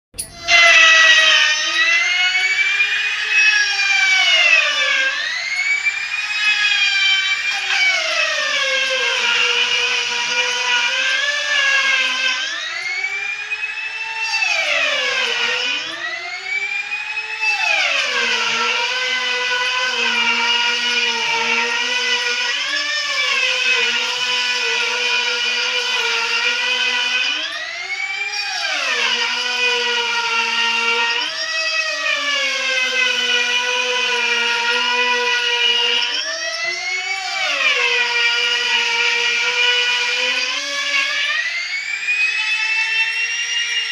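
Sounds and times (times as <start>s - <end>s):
power tool motor cutting wood: 0.2s - 43.9s.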